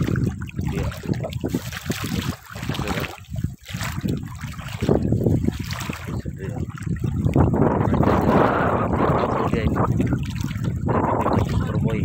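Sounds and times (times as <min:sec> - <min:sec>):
seawater splashing and sloshing: 0:00.0 - 0:12.0.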